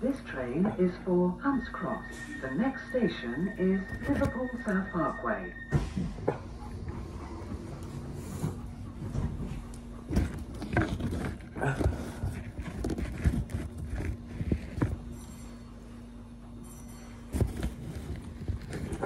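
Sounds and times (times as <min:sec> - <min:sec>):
train hum and rumble: 0:00.0 - 0:16.6.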